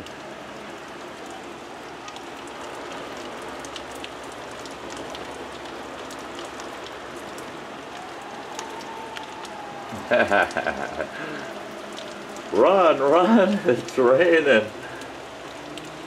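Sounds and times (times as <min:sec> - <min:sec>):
heavy rain pouring: 0:00.0 - 0:16.0
sharp drip ticks: 0:00.8 - 0:16.0.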